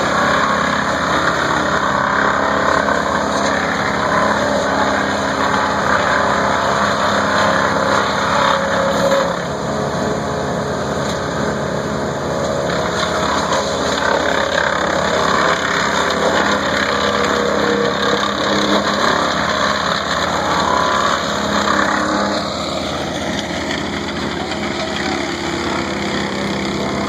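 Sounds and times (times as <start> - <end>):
wood chipper engine running: 0.0 - 27.0.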